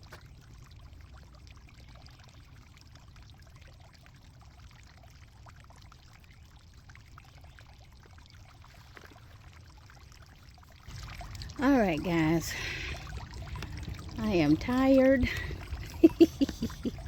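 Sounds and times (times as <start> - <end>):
low steady rumble: 0.0 - 17.0
soil trickling and crackling: 0.0 - 17.0.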